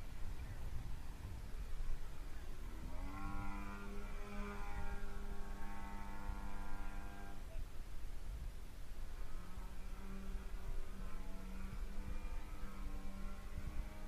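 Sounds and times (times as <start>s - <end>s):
model airplane motor drone: 0.1s - 7.6s, 8.8s - 14.0s.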